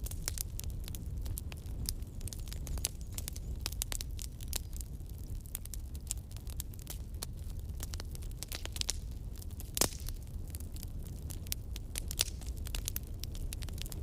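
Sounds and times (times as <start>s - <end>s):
campfire wood popping: 0.0s - 14.0s
low fire rumble: 0.0s - 14.0s.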